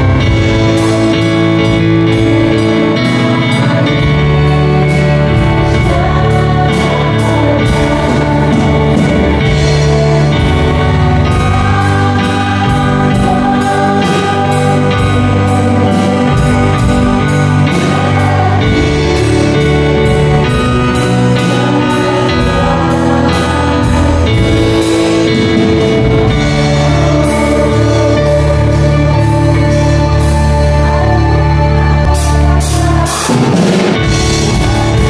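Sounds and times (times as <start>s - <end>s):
keyboard sustained chords: 0.0s - 35.0s
people singing: 0.0s - 35.0s.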